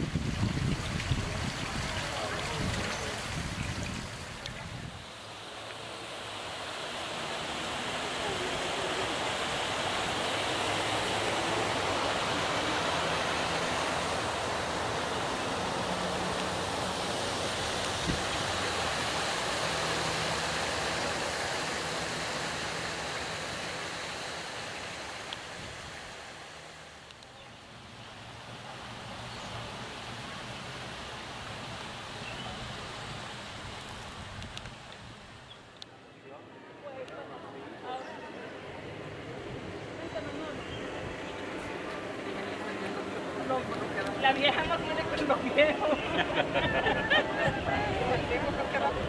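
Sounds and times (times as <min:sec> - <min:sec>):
fountain water splashing: 0:00.0 - 0:36.0, 0:37.0 - 0:49.0.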